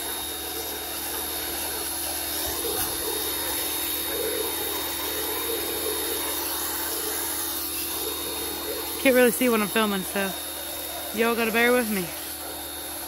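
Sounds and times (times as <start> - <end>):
pressure washer motor humming: 0.0 - 13.0
water spray hissing: 0.0 - 13.0.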